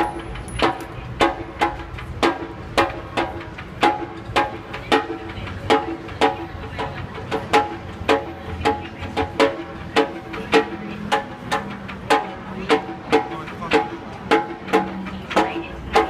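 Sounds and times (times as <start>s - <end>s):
drum strikes: 0.0s - 16.0s.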